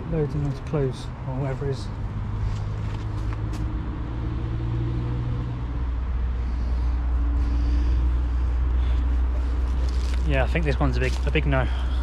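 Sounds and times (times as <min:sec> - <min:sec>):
road traffic: 0:00.0 - 0:12.0
heavy vehicle engine running: 0:01.3 - 0:12.0.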